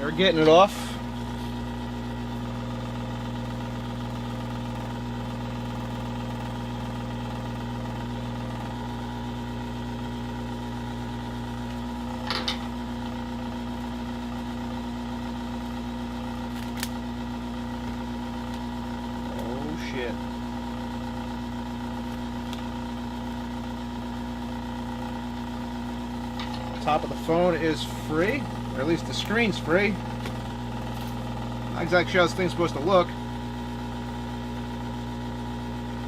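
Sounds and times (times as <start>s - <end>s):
machine hum of motor: 0.0s - 36.0s.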